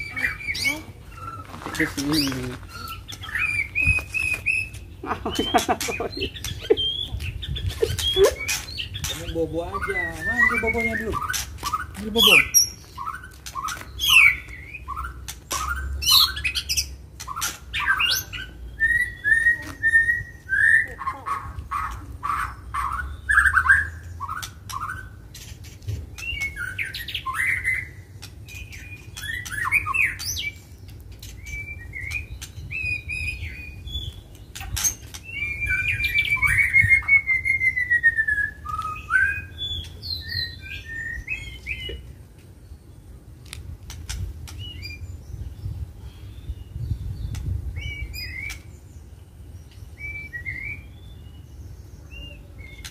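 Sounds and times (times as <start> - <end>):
birds singing whistled phrases: 0.0 - 43.2, 43.9 - 52.9.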